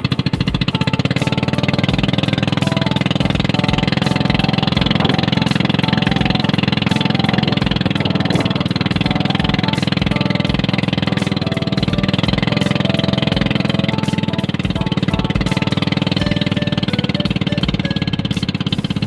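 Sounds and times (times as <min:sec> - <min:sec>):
small boat engine running: 0:00.0 - 0:19.0.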